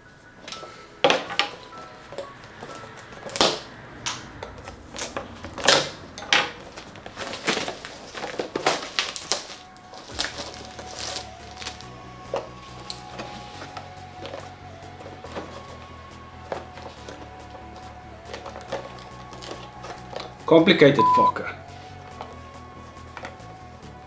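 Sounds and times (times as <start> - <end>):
quiet background music: 0.0 - 24.0
packaging crackling: 0.5 - 20.4.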